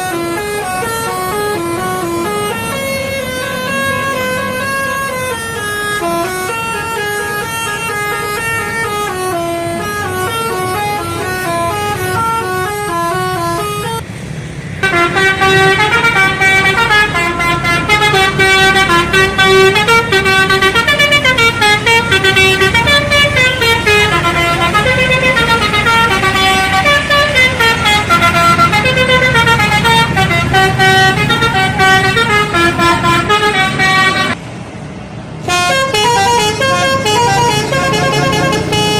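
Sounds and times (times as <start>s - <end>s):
bus air horns playing melody: 0.0s - 14.0s, 14.8s - 34.4s, 35.4s - 38.9s.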